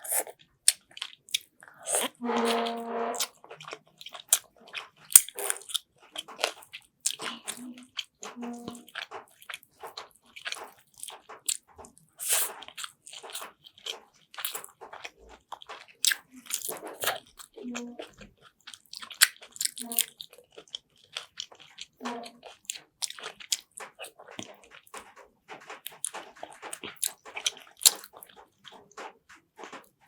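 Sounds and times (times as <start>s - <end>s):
wet chewing and smacking: 0.0s - 30.0s.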